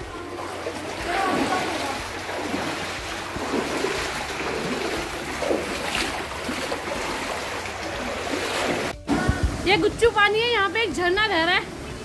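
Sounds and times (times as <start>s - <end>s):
water rushing over rocks: 0.0s - 9.6s.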